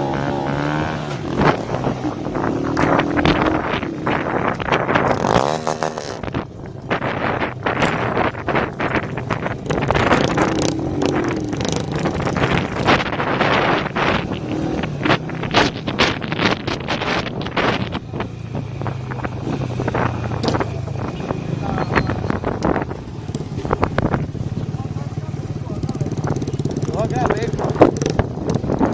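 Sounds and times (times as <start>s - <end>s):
motorcycle engines revving: 0.0s - 28.9s
wind noise on microphone: 0.0s - 28.9s.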